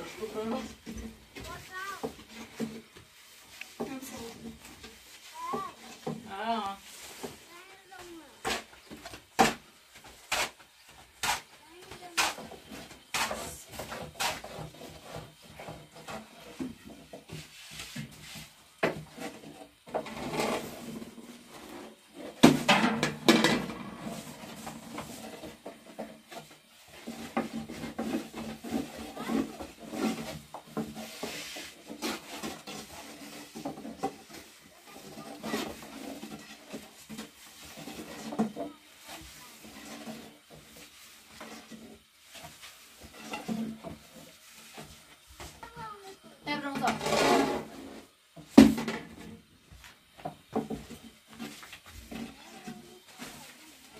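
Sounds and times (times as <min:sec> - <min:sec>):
rolling pin rasping over dough: 0:00.0 - 0:22.5, 0:23.7 - 0:48.1.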